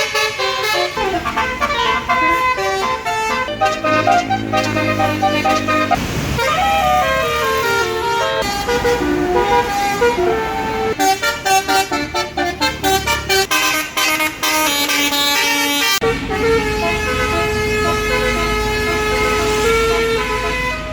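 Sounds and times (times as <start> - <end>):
musical bus air horn: 0.0 - 20.9.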